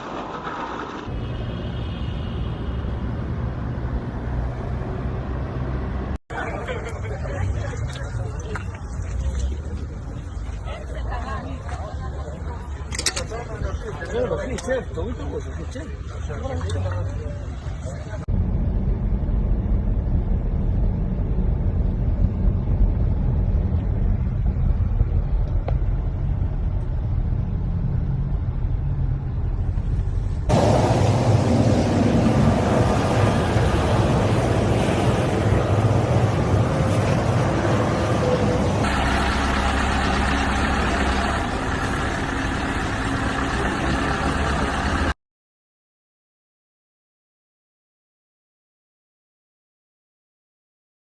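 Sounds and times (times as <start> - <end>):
car engine and tyre noise: 0.0 - 45.2
road and traffic noise: 0.0 - 45.2.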